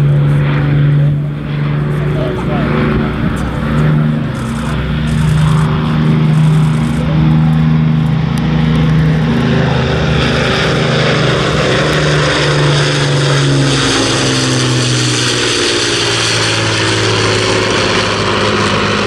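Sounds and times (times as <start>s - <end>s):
propeller aircraft engines drone: 0.0s - 19.0s.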